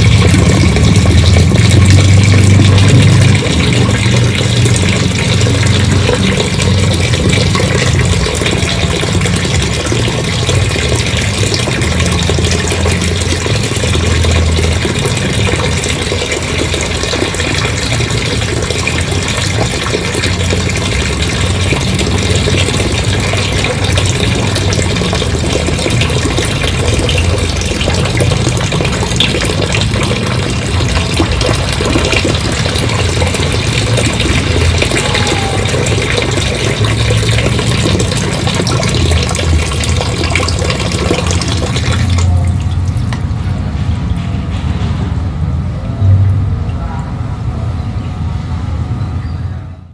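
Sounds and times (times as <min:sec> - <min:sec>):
water gushing: 0:00.0 - 0:44.1
engine-driven pump running: 0:00.0 - 0:49.9.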